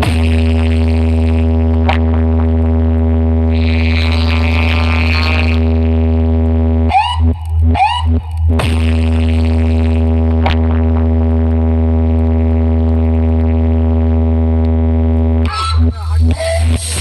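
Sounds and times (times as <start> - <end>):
synthesizer bass drone: 0.0 - 17.0.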